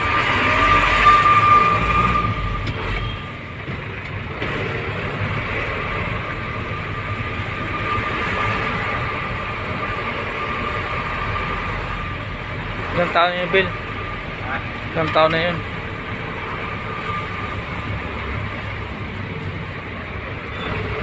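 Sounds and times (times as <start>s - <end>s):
truck road and engine noise: 0.0s - 21.0s.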